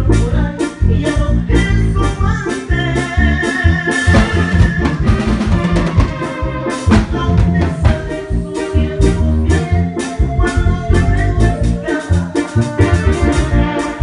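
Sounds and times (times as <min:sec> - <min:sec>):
drum kit beat: 0:00.0 - 0:14.0
live band playing: 0:00.0 - 0:14.0.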